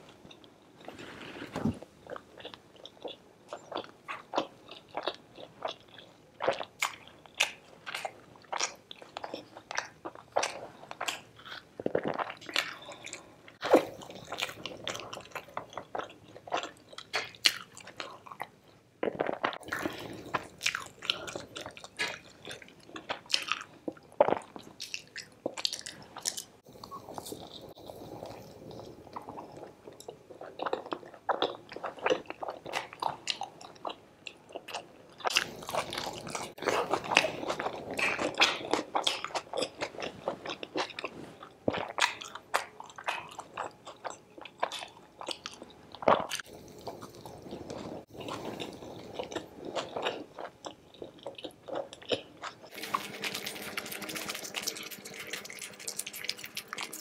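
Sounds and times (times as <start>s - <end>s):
person chewing wetly: 2.1s - 57.0s.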